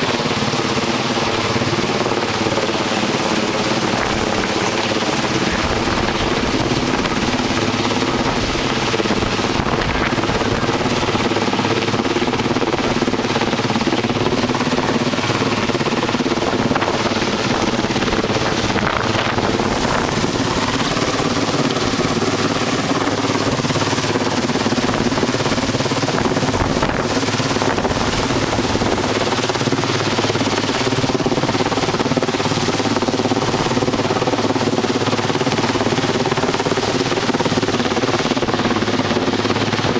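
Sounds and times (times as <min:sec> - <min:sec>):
helicopter engine drone: 0:00.0 - 0:39.9
helicopter rotor beat: 0:00.0 - 0:39.9.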